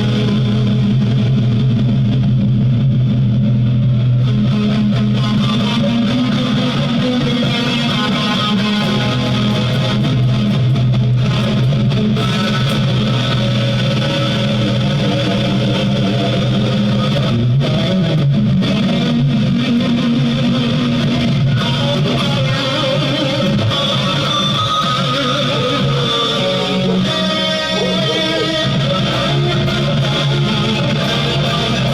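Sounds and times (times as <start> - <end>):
electric guitar and bass music: 0.0 - 31.9.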